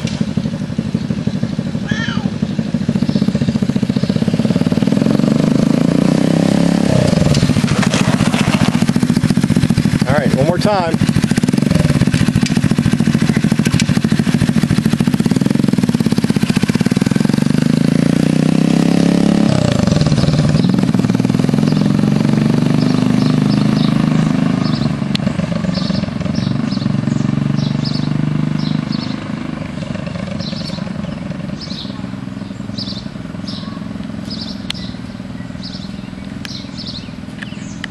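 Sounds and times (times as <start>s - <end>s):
minibike engine running: 0.0s - 37.9s.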